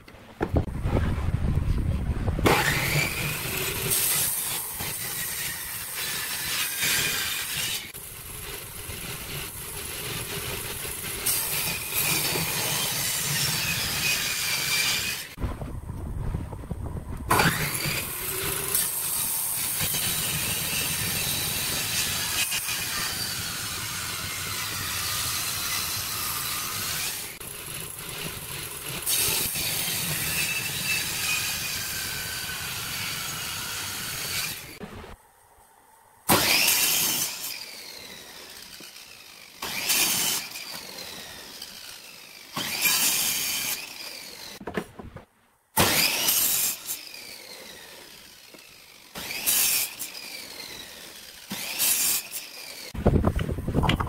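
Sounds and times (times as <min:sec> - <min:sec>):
table saw cutting wood: 0:02.4 - 0:15.4, 0:17.3 - 0:34.8, 0:36.3 - 0:44.6, 0:45.8 - 0:53.0.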